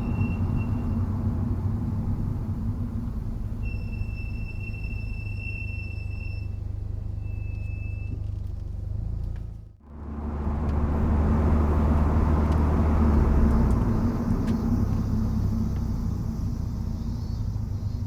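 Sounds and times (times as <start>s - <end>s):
brakes squealing: 0.0s - 18.0s
car engine: 0.0s - 18.0s
road noise: 0.0s - 18.0s.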